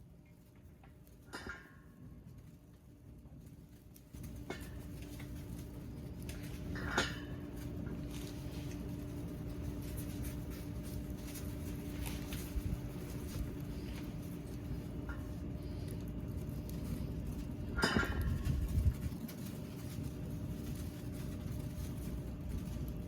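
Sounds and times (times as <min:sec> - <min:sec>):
faint steady hum: 0:00.0 - 0:23.0
wood fire crackling: 0:02.0 - 0:23.0.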